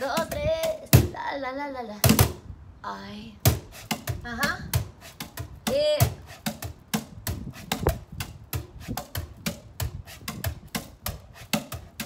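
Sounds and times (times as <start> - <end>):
cajon drumming: 0.0 - 1.2, 3.4 - 12.0.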